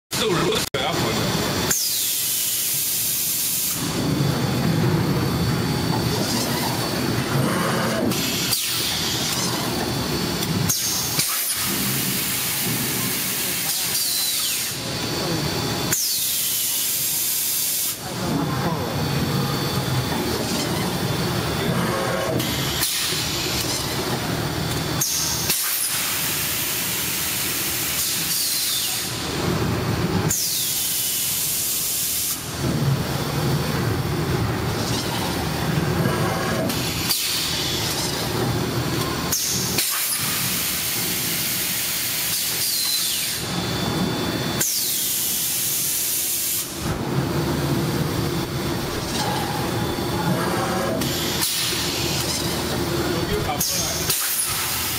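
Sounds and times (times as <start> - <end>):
machine noise: 0.1 - 54.9.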